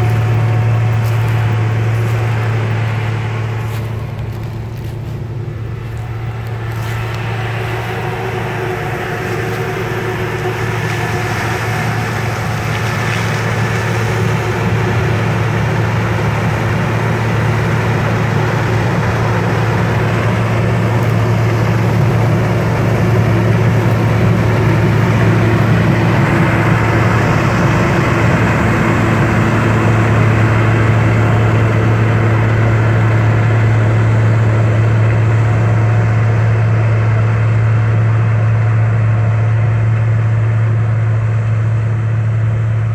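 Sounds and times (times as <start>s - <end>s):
combine harvester engine drone: 0.0s - 42.9s
rushing noise of threshing: 0.0s - 42.9s.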